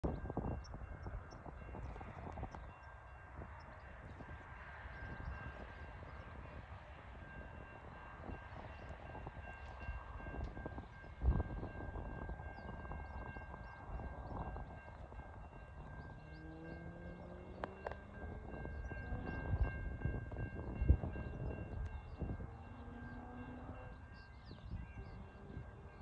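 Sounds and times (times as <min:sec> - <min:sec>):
distant diesel locomotives rumbling: 0:00.0 - 0:26.0
wind on microphone: 0:00.0 - 0:26.0.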